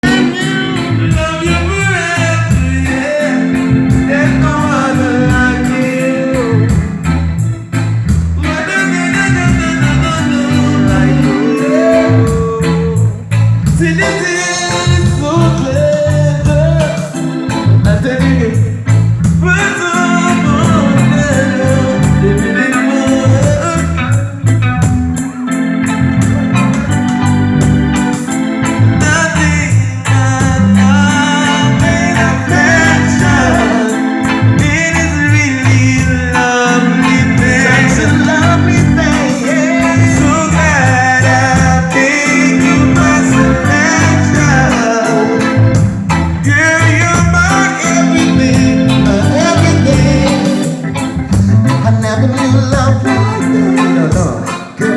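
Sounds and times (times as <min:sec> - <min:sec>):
person singing: 0:00.0 - 0:07.1, 0:08.4 - 0:27.2, 0:29.0 - 0:54.9
reggae band playing: 0:00.0 - 0:54.9.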